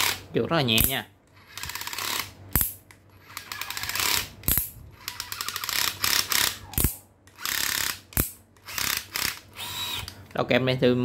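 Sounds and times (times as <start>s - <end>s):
drill clutch ratcheting clicks: 0.8s - 10.2s.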